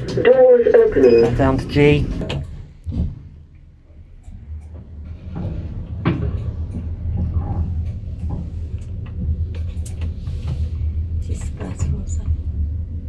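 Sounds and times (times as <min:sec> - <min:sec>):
lift car rumbling: 0:00.0 - 0:13.0.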